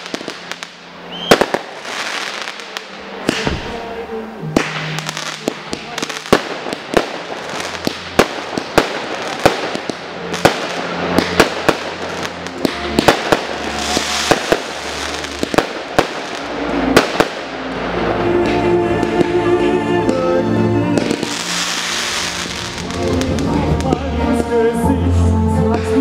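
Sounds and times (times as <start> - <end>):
fireworks crackle and hiss: 0.0 - 4.0, 4.6 - 19.4, 21.0 - 24.2
firework bangs: 0.0 - 19.4, 21.0 - 24.2.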